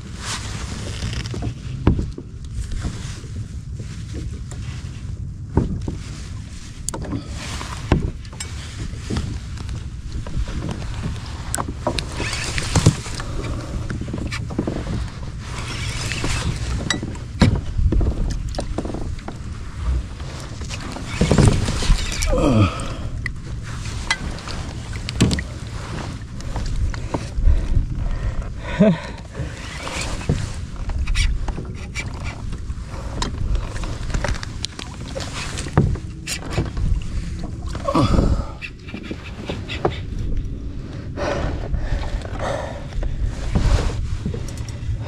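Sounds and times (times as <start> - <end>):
water noise: 0.0 - 45.0
wind rumble on microphone: 0.0 - 45.0
knocks and clicks against hull: 0.3 - 45.0.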